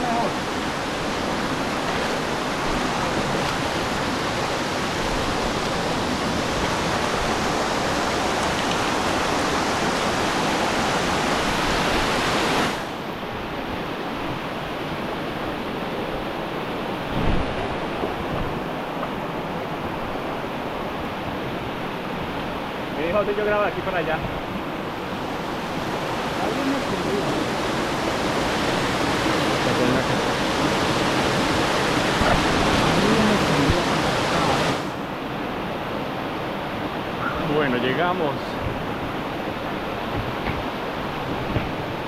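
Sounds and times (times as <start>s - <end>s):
river water rushing over rocks: 0.0s - 42.0s.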